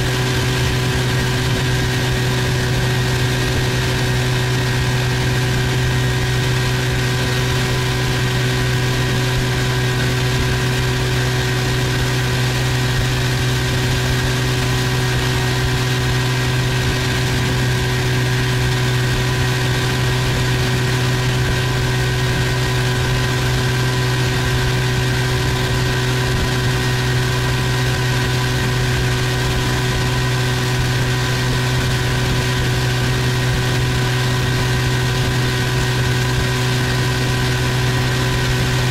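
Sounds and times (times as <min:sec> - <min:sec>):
outboard motor droning: 0:00.0 - 0:38.9.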